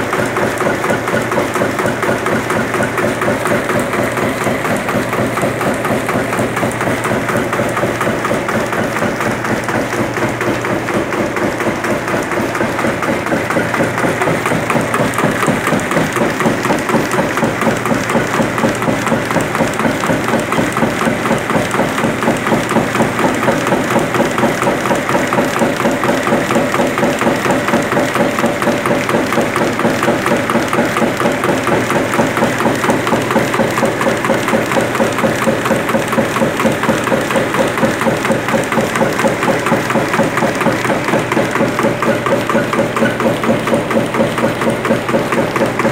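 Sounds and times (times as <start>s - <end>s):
press machine pulsing: 0.0s - 45.9s.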